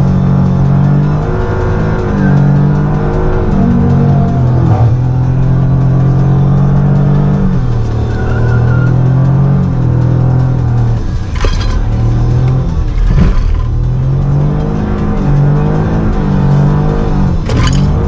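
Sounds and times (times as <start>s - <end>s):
car engine revving in cabin: 0.0s - 18.0s
music: 0.0s - 18.0s.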